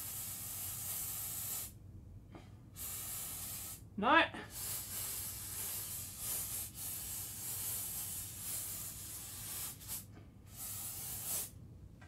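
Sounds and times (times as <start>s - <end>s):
freeze spray hissing: 0.0s - 1.8s, 2.8s - 3.8s, 4.5s - 11.6s.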